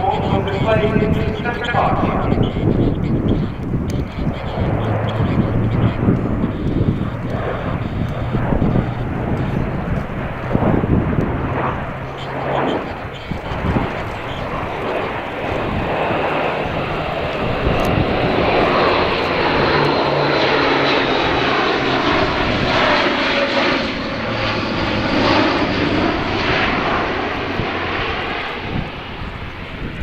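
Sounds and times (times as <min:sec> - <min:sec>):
turboprop engines roaring: 0:00.0 - 0:30.0.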